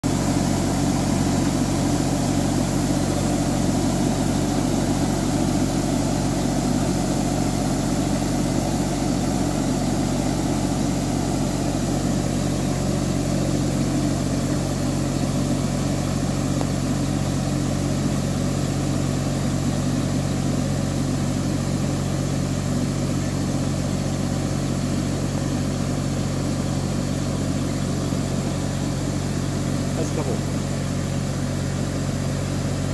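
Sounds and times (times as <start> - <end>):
sprayer engine humming: 0.0 - 32.9.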